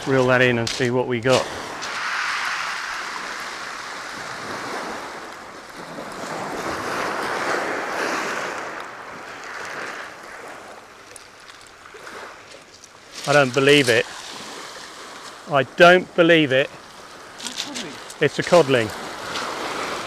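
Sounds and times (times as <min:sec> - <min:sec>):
waves on a shingle beach: 0:00.0 - 0:20.0.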